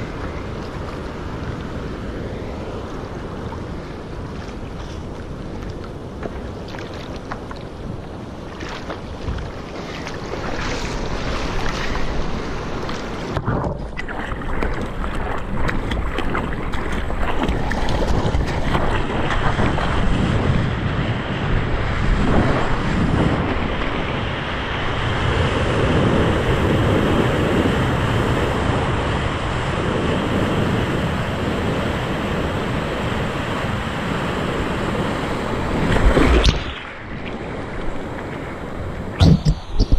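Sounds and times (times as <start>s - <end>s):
waves breaking: 0.0s - 39.9s
wind on microphone: 0.0s - 39.9s.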